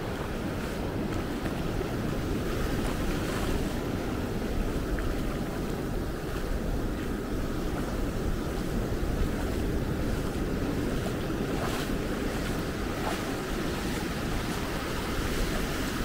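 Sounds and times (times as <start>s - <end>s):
surf washing onto beach: 0.0s - 16.0s
wind rumbling on microphone: 0.0s - 16.0s.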